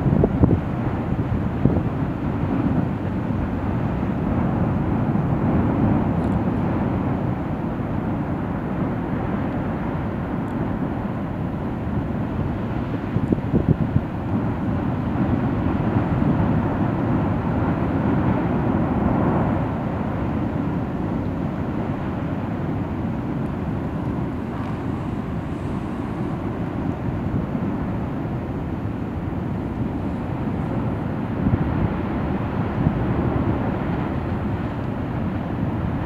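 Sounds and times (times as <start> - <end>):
lava lake rumbling: 0.0 - 36.0.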